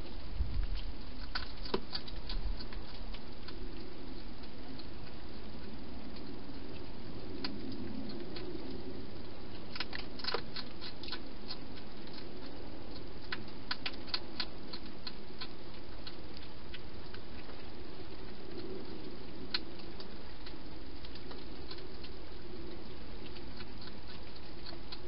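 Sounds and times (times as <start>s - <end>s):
steady background hiss: 0.0s - 25.0s
hedgehog chewing clicks: 0.6s - 25.0s.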